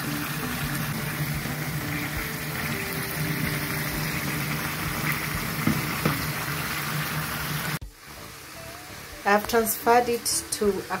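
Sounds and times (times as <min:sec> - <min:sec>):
chicken frying in oil: 0:00.0 - 0:11.0
cooker low hum: 0:00.0 - 0:11.0.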